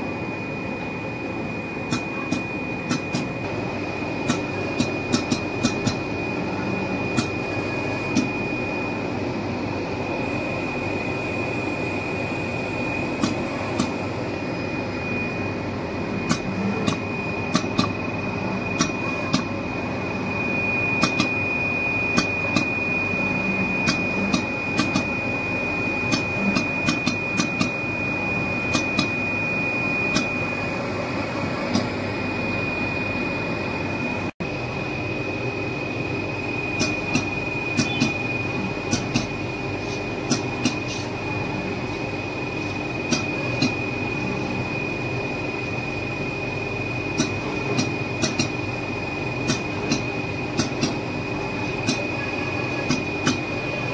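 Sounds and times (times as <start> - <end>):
cutting machine whine: 0.0 - 53.9.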